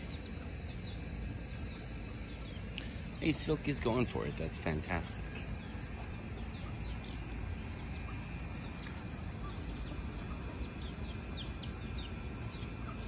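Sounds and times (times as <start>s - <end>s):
chickens peeping: 0.0s - 13.0s
steady low rumble: 0.0s - 13.0s.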